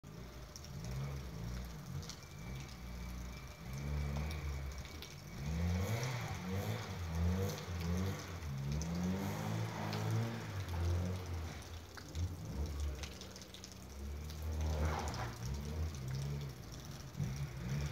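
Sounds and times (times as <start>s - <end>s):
car engine revving: 0.6s - 17.9s.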